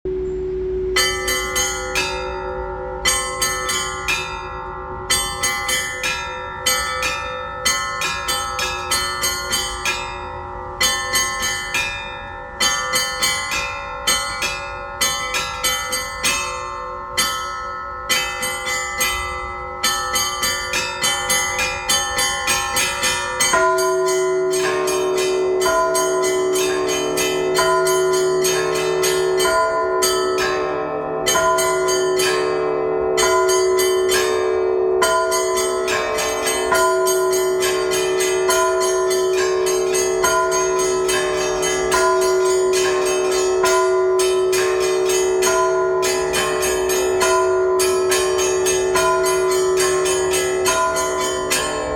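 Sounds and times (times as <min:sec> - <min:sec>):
hum of larger bells: 0:00.1 - 0:51.9
small bells struck rhythmically: 0:00.8 - 0:51.9.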